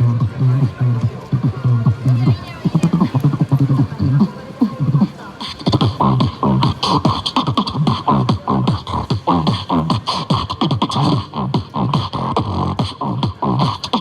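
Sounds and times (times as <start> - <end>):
person beatboxing: 0.0 - 14.0.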